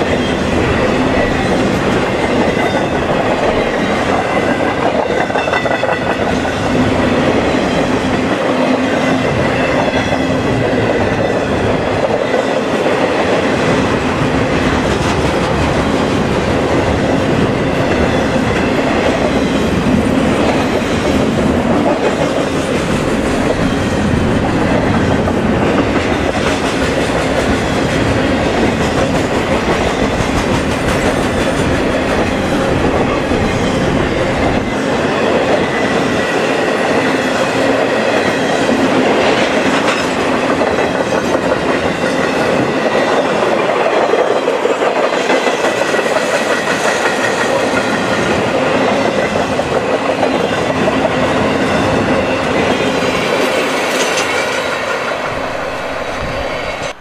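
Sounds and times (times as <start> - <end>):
steel train wheels on rails: 0.0 - 57.0.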